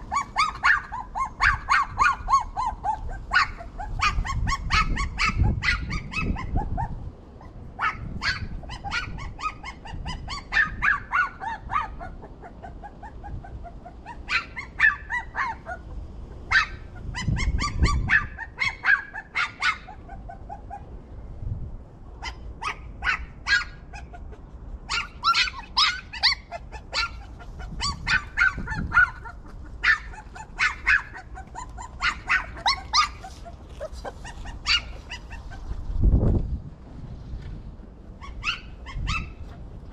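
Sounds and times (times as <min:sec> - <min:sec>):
puppies whimpering and yipping: 0:00.0 - 0:21.0, 0:22.2 - 0:35.9, 0:38.2 - 0:39.9.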